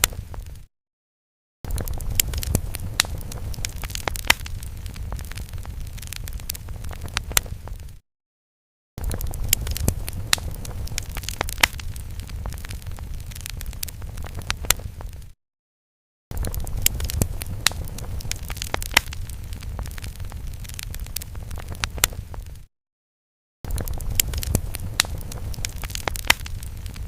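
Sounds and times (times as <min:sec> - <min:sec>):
fire crackling and popping: 0:00.0 - 0:00.7, 0:01.6 - 0:08.0, 0:09.0 - 0:15.4, 0:16.3 - 0:22.7, 0:23.7 - 0:27.0.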